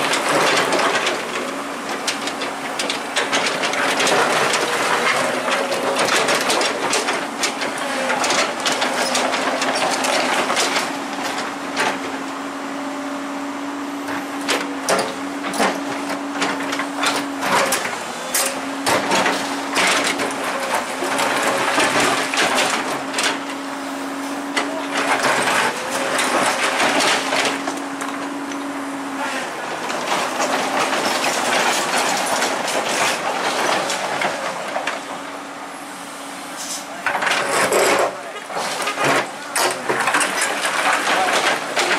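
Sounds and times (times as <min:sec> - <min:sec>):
excavator humming: 0:00.0 - 0:41.9.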